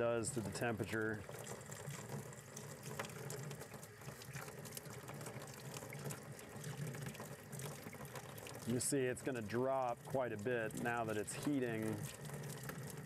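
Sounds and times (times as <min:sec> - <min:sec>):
water running from faucet: 0:00.0 - 0:13.0.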